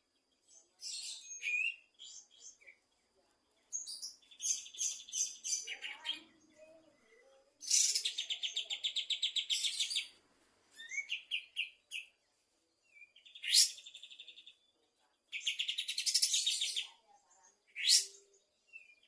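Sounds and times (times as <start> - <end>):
bulbul singing trilled phrases: 0.0 - 10.2, 10.8 - 19.0.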